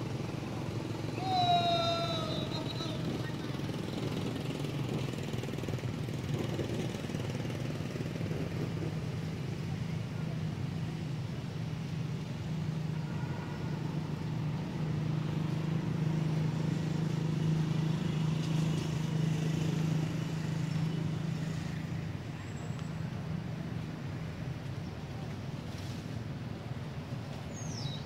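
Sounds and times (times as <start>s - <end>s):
vehicle engine humming: 0.0s - 28.0s.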